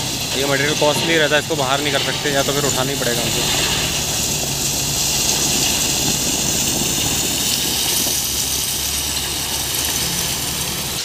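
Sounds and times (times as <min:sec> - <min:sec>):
crushed stone pouring: 0:00.0 - 0:11.0
truck diesel engine running: 0:00.0 - 0:11.0.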